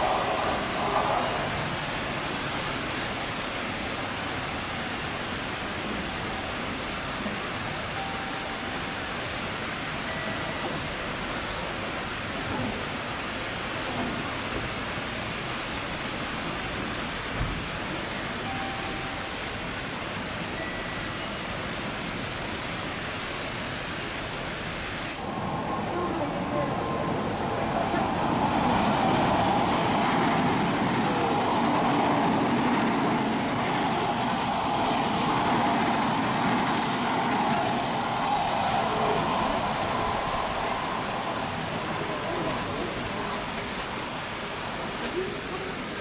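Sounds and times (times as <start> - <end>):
heavy rain hissing: 0.0 - 46.0.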